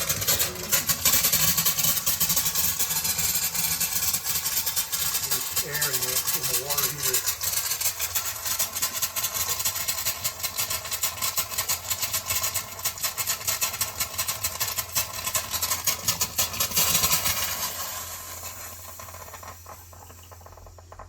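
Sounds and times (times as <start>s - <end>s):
faucet sputtering and spitting: 0.0s - 21.0s.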